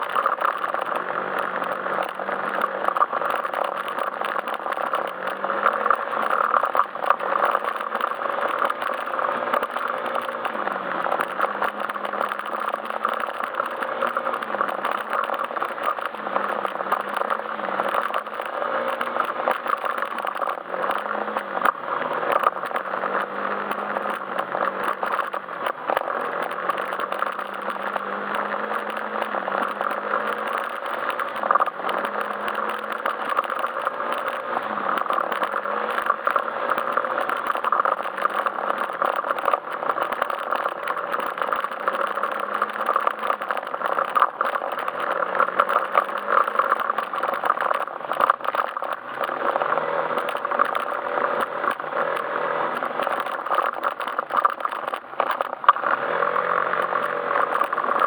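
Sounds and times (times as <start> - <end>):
scooter engine running: 0.0 - 58.0
wind and road noise: 0.0 - 58.0.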